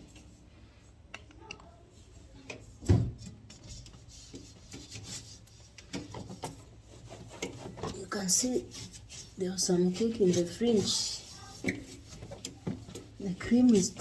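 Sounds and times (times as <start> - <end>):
knocks and clatter of handling: 2.4 - 14.0.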